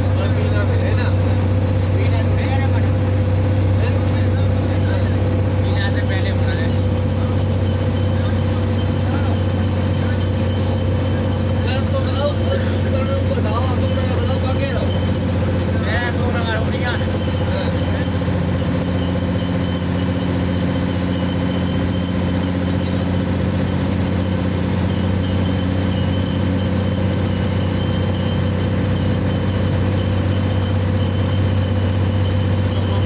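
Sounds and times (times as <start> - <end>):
road noise: 0.0 - 33.0
vehicle engine drone: 0.0 - 33.0.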